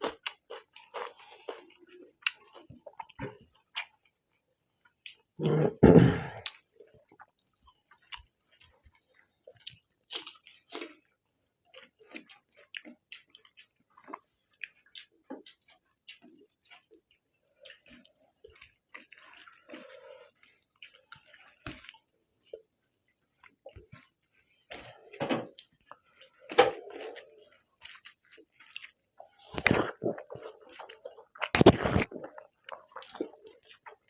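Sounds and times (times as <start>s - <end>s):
chewing and mouth sounds: 0.0s - 4.2s, 6.4s - 34.0s.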